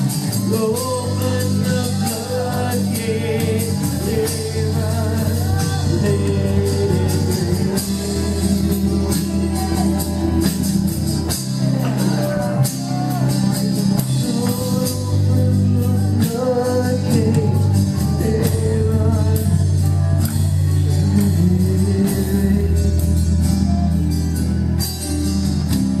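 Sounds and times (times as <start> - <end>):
person singing: 0.0 - 24.0
worship band playing: 0.0 - 26.0.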